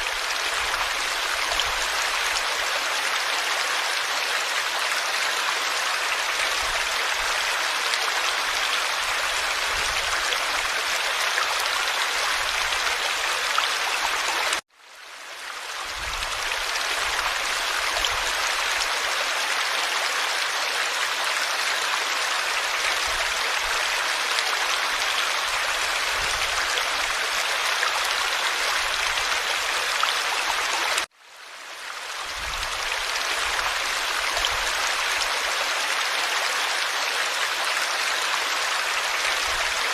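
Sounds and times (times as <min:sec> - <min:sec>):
stream babbling over stones: 0:00.0 - 0:14.6, 0:15.3 - 0:31.1, 0:31.8 - 0:39.9.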